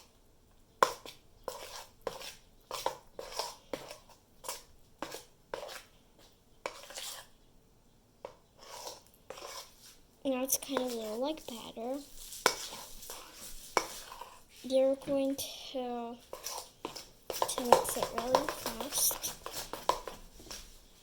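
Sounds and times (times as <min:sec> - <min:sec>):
utensil scraping a bowl: 0:00.8 - 0:07.4, 0:08.2 - 0:20.8.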